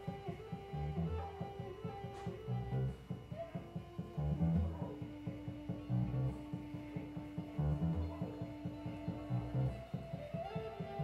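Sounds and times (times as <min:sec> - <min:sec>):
guitars picking notes: 0:00.0 - 0:11.0
low repeated notes: 0:00.0 - 0:11.0.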